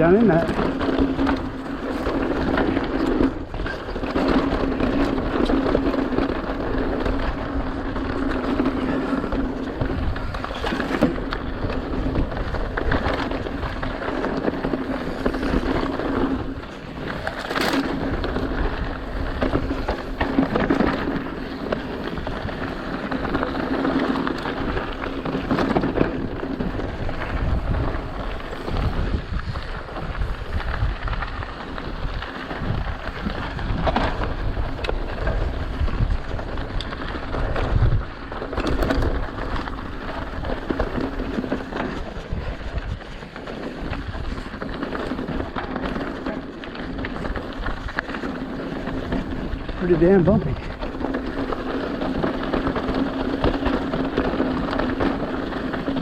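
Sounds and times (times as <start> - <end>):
bike clattering over bumps: 0.0 - 56.0
tyres crunching over dirt and rock: 0.0 - 56.0.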